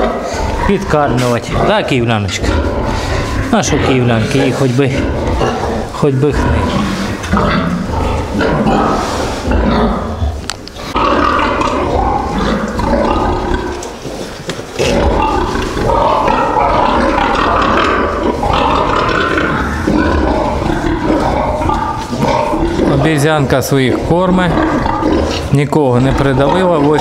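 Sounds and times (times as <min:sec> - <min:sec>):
pigs grunting: 0:00.0 - 0:27.0
pigs screaming: 0:00.0 - 0:27.0.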